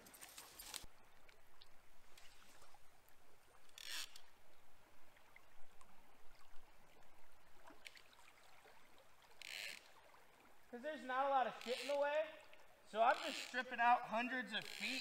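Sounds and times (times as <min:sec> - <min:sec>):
river water running: 0:00.0 - 0:15.0.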